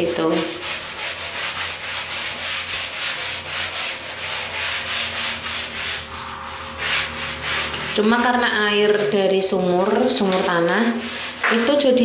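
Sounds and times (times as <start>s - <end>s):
brush bristles scrubbing tile floor: 0.0s - 12.0s.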